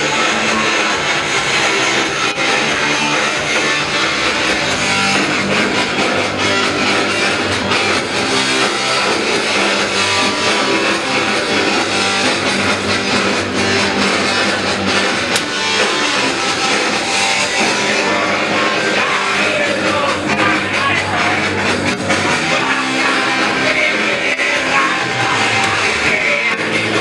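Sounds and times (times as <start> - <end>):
loud electric guitar: 0.0 - 27.0
punk rock band playing: 0.0 - 27.0.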